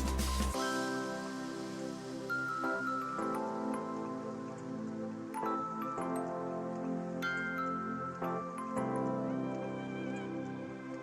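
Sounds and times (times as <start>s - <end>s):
soft held chords music: 0.0s - 11.0s.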